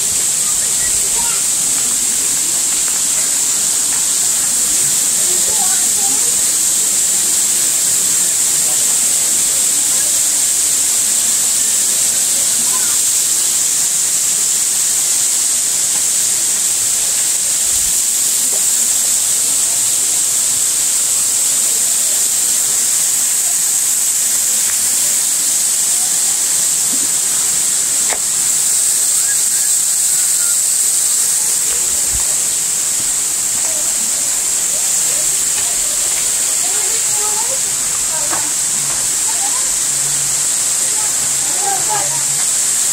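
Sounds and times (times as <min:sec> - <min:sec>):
waterfall hissing: 0:00.0 - 0:42.9.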